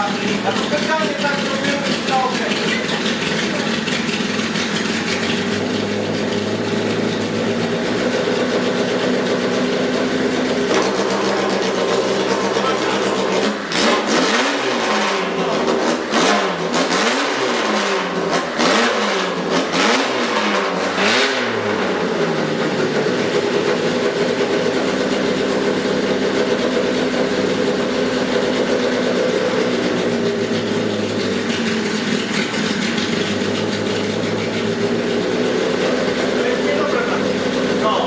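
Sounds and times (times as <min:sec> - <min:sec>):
car engine revving and idling: 0:00.0 - 0:38.0.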